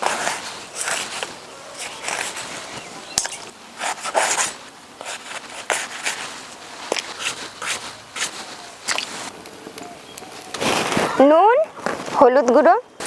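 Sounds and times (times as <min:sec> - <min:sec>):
hands scraping and rubbing: 0:00.0 - 0:12.3.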